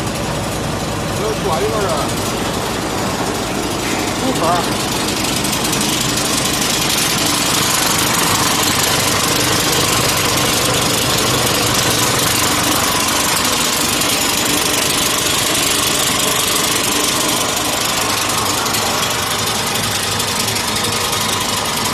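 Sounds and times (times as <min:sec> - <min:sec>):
recycling machine running: 0:00.0 - 0:21.9.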